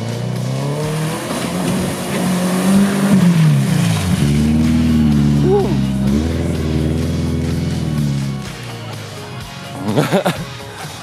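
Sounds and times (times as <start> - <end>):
car engine revving: 0.0 - 9.1
tyres churning through mud: 0.0 - 10.2.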